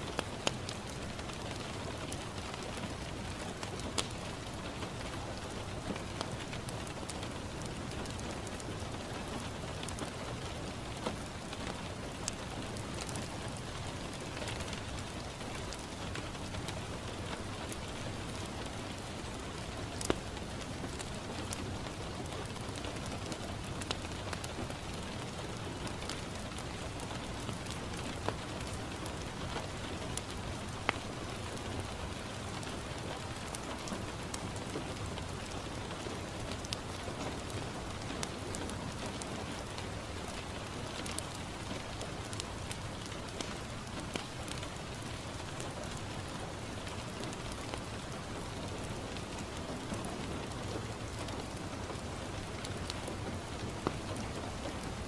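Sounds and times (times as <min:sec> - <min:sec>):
rain on a window: 0:00.0 - 0:55.0
wood fire crackling: 0:00.0 - 0:55.0.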